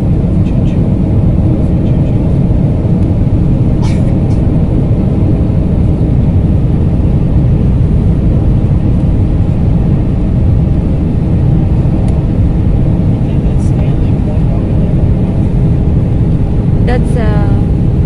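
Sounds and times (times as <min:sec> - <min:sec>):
jet engine roar in cabin: 0:00.0 - 0:18.0.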